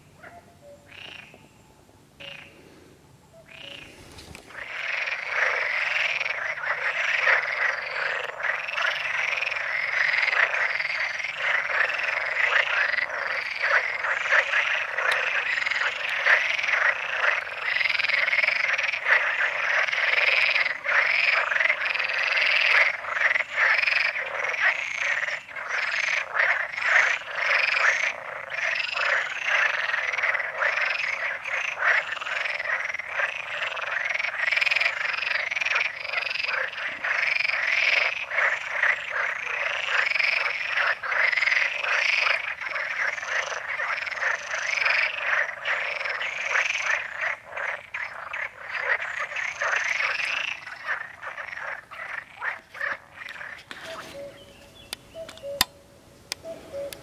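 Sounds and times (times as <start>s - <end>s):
chorus of frogs calling: 0.0s - 1.4s, 2.2s - 2.6s, 3.4s - 55.7s.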